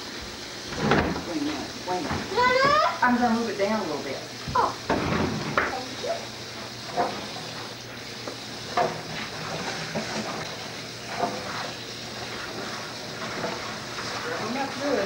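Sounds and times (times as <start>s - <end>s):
water running into sink: 0.0s - 15.0s.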